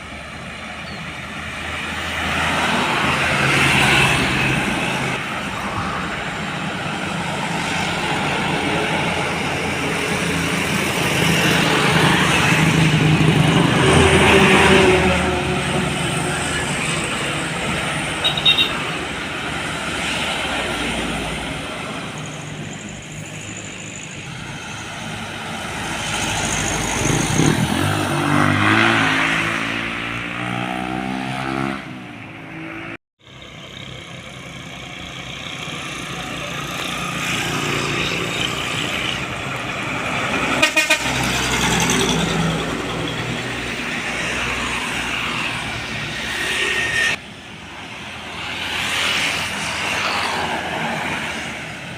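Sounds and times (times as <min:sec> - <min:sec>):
heavy trucks passing: 0:00.0 - 0:51.9.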